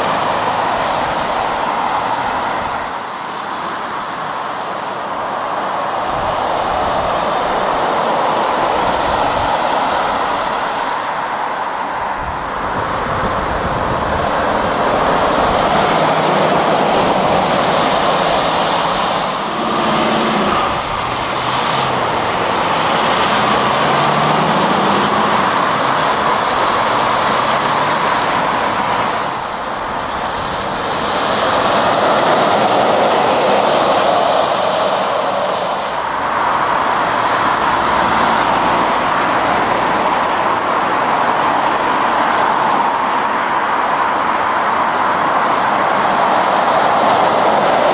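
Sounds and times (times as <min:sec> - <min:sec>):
lorry diesel engine accelerating: 0:00.0 - 0:47.9
road traffic: 0:00.0 - 0:47.9.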